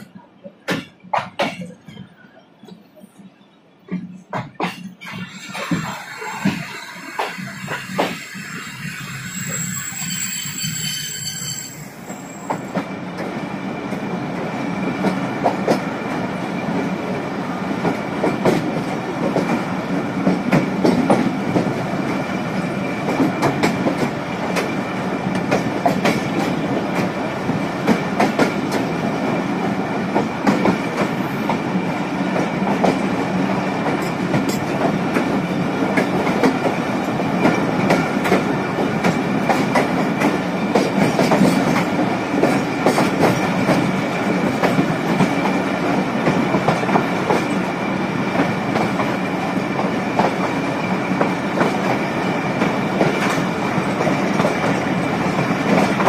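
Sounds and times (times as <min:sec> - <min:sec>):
train wheels clattering over rails: 0:00.6 - 0:02.0, 0:03.9 - 0:08.4, 0:12.0 - 0:56.0.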